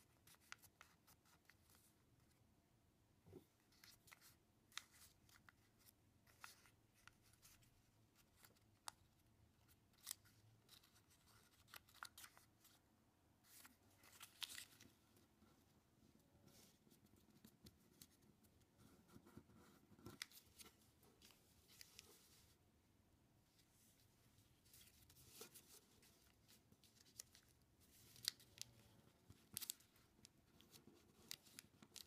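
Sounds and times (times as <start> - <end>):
paper being folded and creased: 0.0 - 1.9, 3.6 - 9.0, 9.7 - 12.8, 13.4 - 15.0, 16.5 - 22.6, 23.6 - 32.0.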